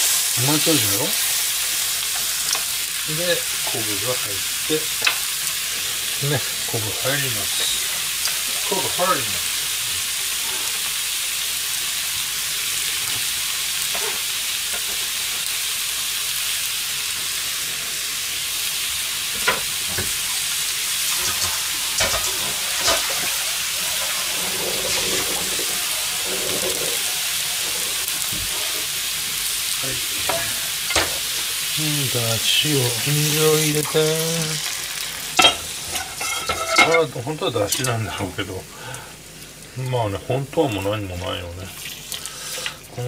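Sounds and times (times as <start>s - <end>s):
food sizzling in a frying pan: 0.0s - 43.0s.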